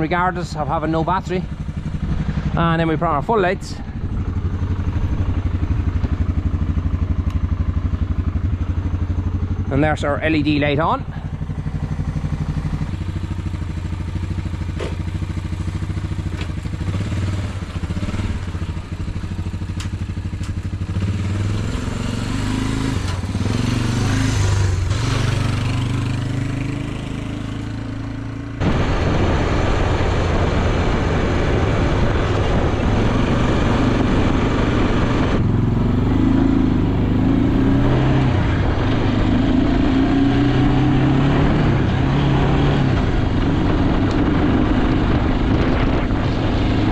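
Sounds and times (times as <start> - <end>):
quad engine driving off: 0.0 - 46.9.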